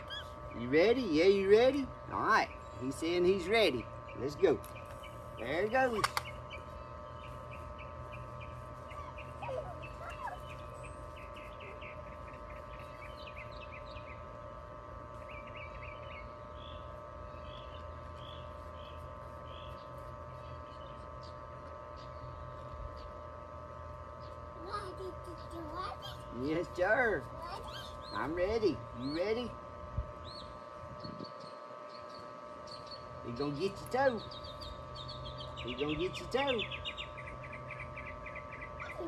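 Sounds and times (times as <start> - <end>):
songbirds chirping: 0.0 - 39.0
steady hum: 0.0 - 39.0.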